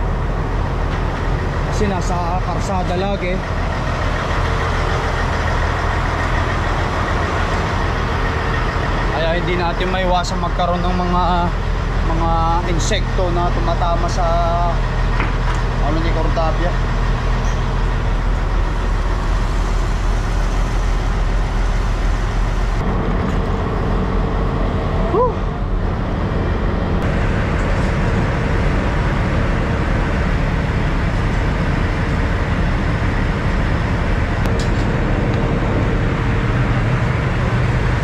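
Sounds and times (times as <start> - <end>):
fuel pump humming: 0.0 - 38.0.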